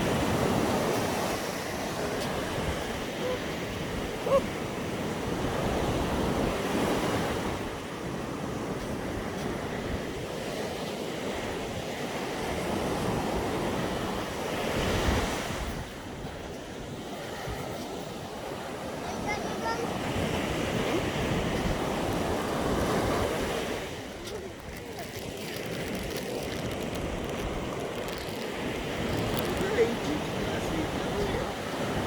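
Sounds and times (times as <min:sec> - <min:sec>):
sea surf washing onto beach: 0:00.0 - 0:32.0
wind buffeting microphone: 0:00.0 - 0:32.0.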